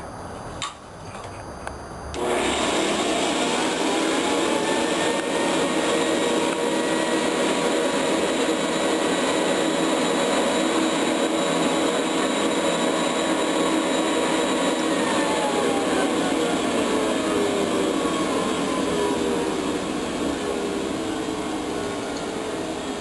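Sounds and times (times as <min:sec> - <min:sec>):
vacuum cleaner running: 0:02.1 - 0:23.0.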